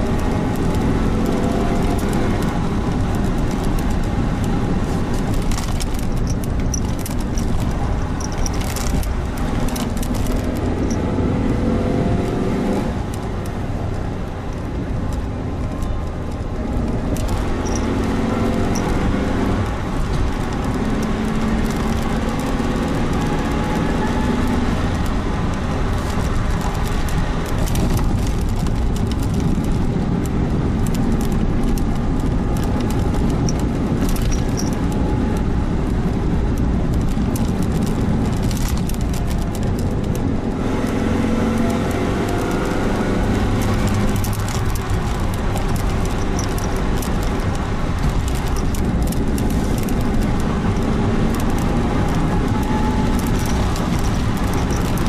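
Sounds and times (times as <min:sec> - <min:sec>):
car engine running: 0:00.0 - 0:55.0
road noise: 0:00.0 - 0:55.0.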